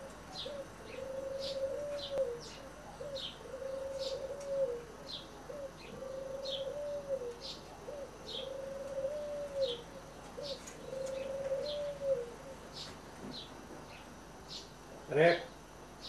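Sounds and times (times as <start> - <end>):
bird cooing: 0.0 - 12.9.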